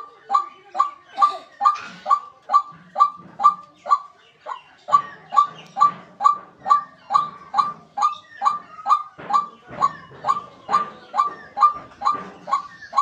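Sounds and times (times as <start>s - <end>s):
waterhen harsh calls: 0.0s - 13.0s.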